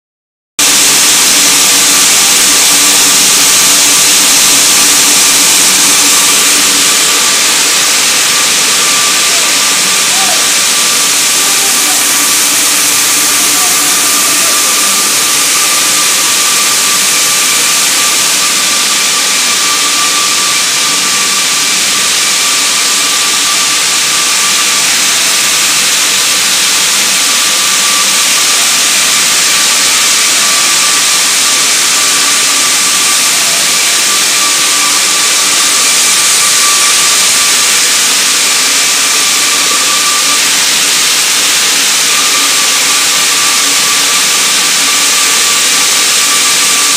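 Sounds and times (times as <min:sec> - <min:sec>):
constant machine whine: 0:00.6 - 0:46.9
conveyors and motors hissing: 0:00.6 - 0:46.9.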